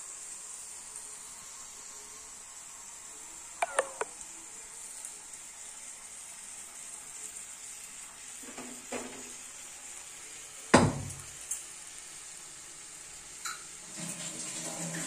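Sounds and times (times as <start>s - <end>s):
faint high hiss: 0.0s - 14.4s.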